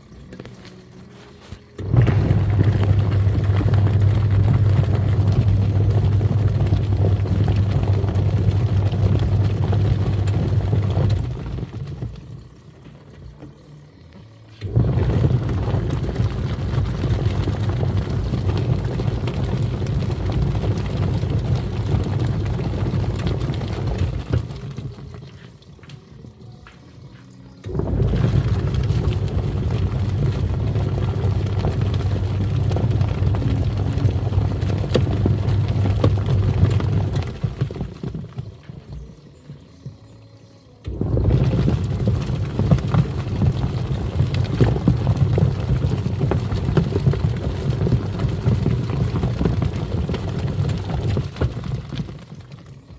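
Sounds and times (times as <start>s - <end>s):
washing machine churning water: 0.0s - 52.9s
washing machine motor humming: 0.0s - 52.9s.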